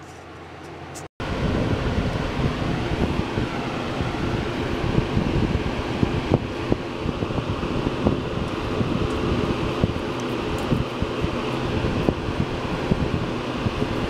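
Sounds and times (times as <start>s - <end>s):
wind buffeting microphone: 1.2s - 14.0s.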